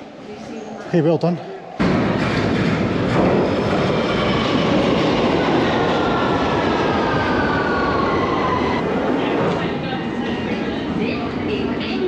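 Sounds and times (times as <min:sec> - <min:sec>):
train rumbling in tunnel: 0:01.7 - 0:12.0.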